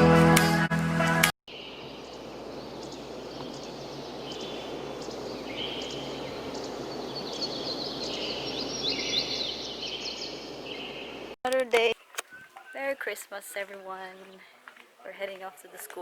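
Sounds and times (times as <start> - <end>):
birds chirping: 1.5 - 16.0
steady background hiss: 1.5 - 16.0.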